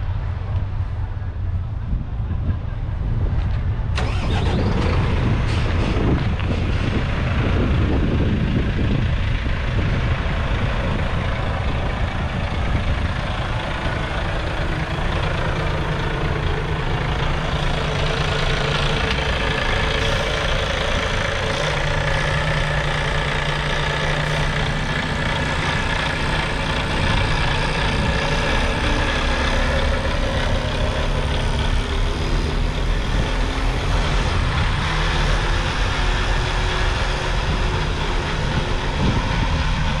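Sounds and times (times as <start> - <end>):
diesel truck engine idling: 0.2 - 40.0.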